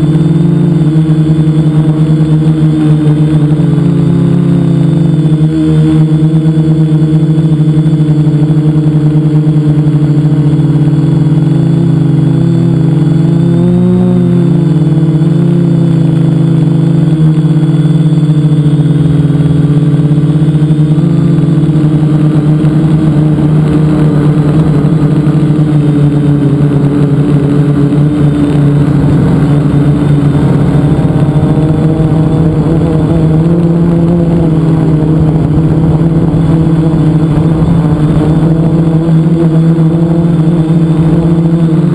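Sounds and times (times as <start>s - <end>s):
drone propellers buzzing: 0.0s - 41.9s.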